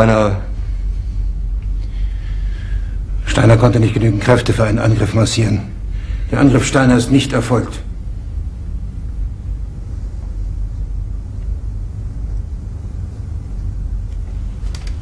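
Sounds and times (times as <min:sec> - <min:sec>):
low room rumble: 0:00.0 - 0:15.0.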